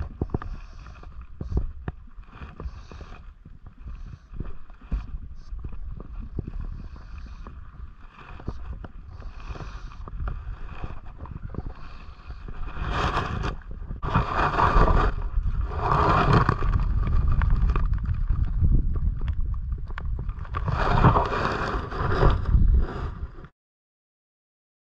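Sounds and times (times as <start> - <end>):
wind rumble on microphone: 0.0 - 23.5.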